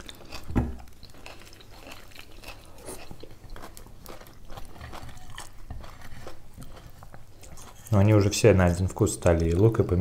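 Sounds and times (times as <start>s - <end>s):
people chewing and crunching food: 0.0s - 10.0s.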